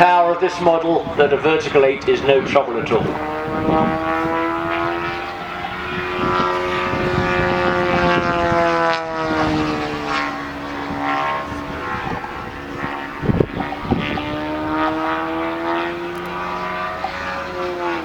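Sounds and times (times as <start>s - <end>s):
model plane engine and propeller: 0.0s - 18.0s.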